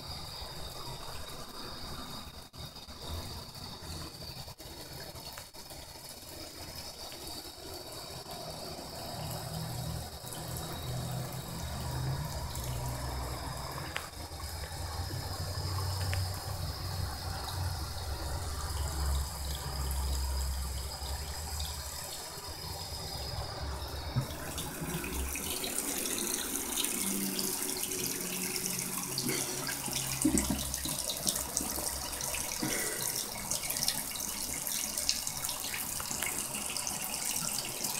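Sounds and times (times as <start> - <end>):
faucet water stream: 0.0 - 37.9.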